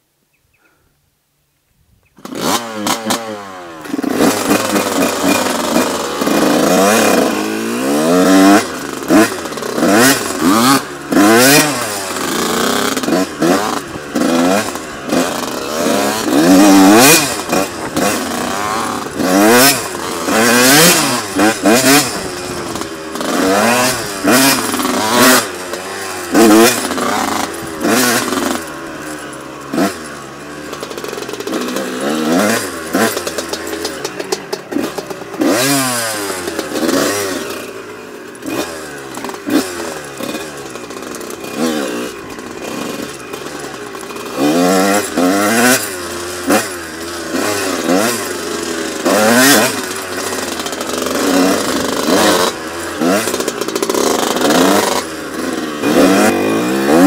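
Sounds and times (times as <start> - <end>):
two-stroke motorcycle engine revving: 2.2 - 57.0.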